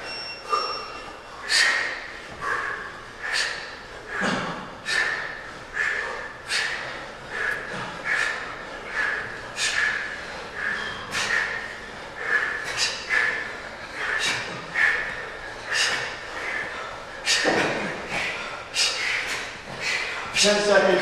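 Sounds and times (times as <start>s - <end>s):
men breathing forcefully: 0.0s - 21.0s.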